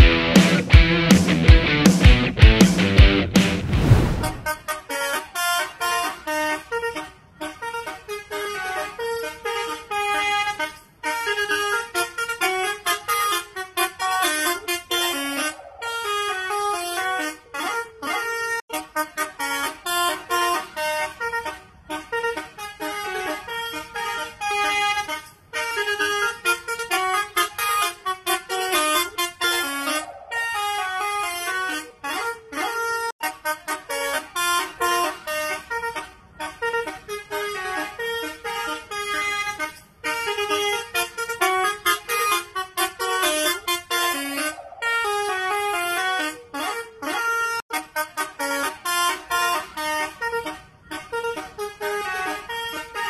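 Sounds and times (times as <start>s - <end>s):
musical air horn playing tune: 3.2s - 53.0s.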